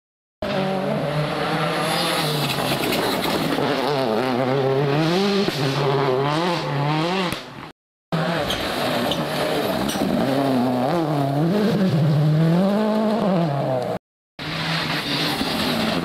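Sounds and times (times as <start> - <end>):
rally car engine accelerating: 0.4 - 16.0.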